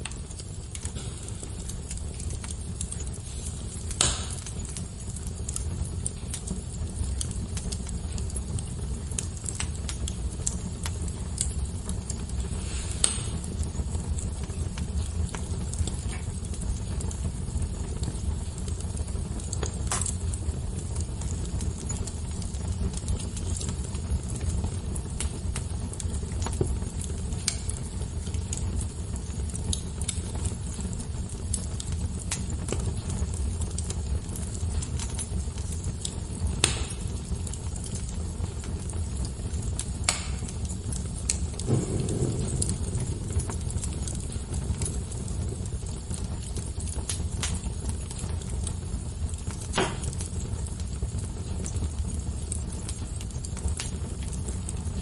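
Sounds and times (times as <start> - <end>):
fire crackling: 0.0 - 55.0
loud fire pops: 0.0 - 55.0.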